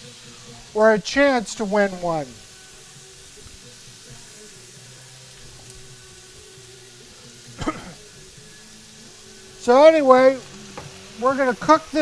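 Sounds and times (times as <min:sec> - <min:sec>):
faint music: 0:00.0 - 0:12.0
onions sizzling in a skillet: 0:00.0 - 0:12.0.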